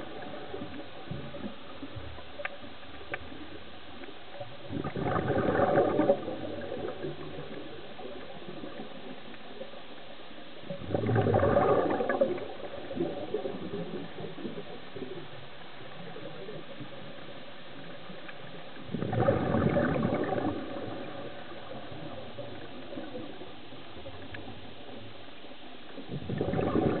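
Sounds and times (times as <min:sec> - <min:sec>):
underwater bubbles burbling: 0:00.0 - 0:09.8, 0:10.6 - 0:27.0
steady hiss of water: 0:00.0 - 0:27.0.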